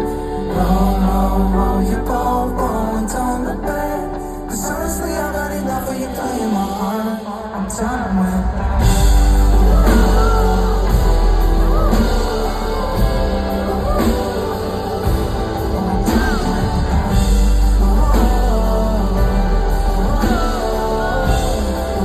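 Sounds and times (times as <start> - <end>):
live pop music with heavy bass: 0.0 - 22.0.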